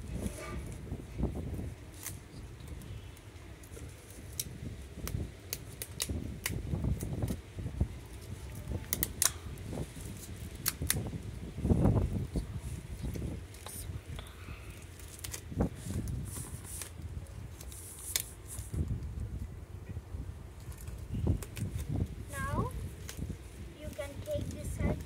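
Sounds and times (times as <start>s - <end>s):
sticky tape and cardboard crackling: 0.1s - 19.1s, 20.5s - 25.0s.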